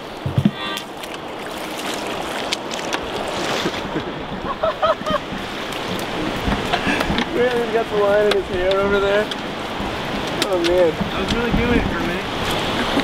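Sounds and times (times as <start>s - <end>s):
river water rushing: 0.0s - 13.0s
wind noise on microphone: 0.0s - 13.0s.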